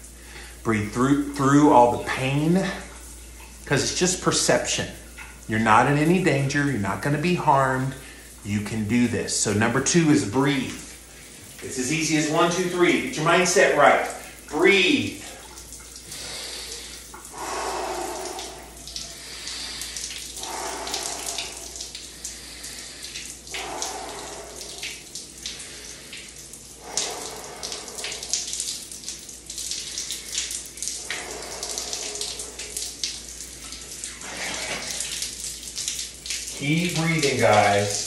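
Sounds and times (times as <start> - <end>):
shower spray splashing: 0.0 - 38.0.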